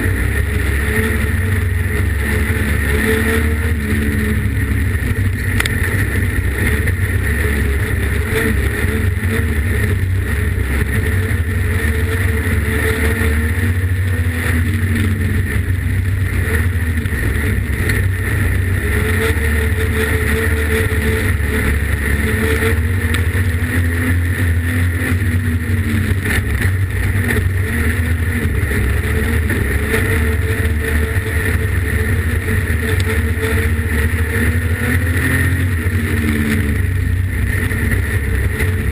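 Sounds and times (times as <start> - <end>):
race car engine: 0.0 - 38.9
road and wind noise: 0.0 - 38.9.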